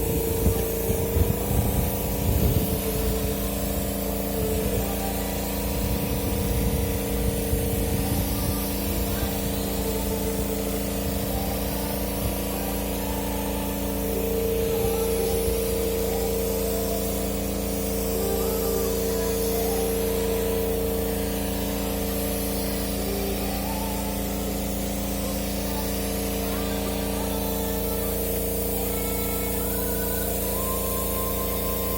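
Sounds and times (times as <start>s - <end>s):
air compressor running: 0.0s - 31.9s.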